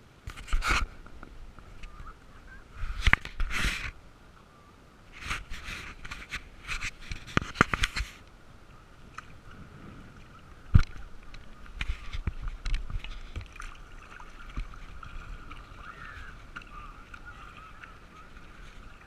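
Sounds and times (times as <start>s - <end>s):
paddle splashing water: 0.2s - 19.0s.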